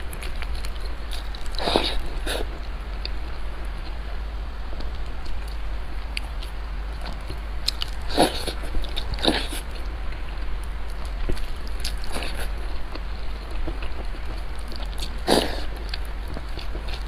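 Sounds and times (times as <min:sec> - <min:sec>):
chewing and biting food: 0:00.0 - 0:04.0, 0:04.9 - 0:17.0.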